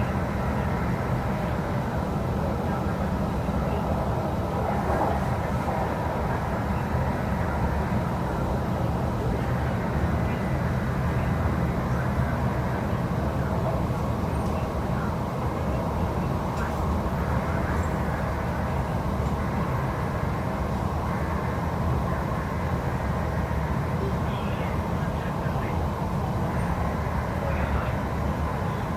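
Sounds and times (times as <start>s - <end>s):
train cabin rumble: 0.0s - 28.9s.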